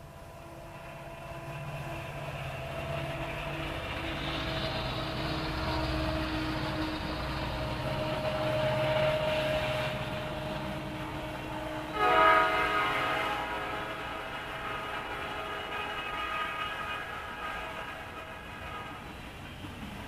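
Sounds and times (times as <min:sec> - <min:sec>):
shrill multi-tone train horn: 0:00.0 - 0:19.7
diesel locomotive engines humming: 0:00.0 - 0:20.0.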